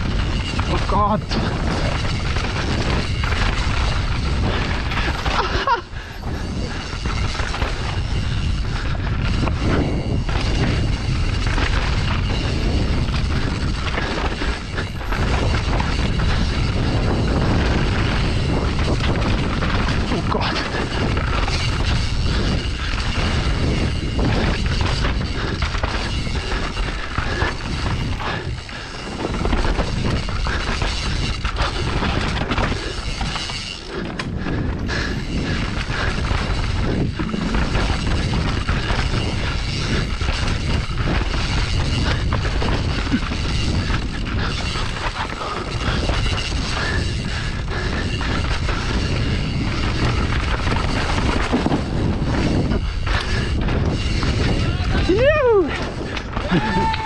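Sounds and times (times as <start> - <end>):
bike chain and frame rattling: 0.0 - 57.0
bike tyres on dirt: 0.0 - 57.0
wind buffeting microphone: 0.0 - 57.0.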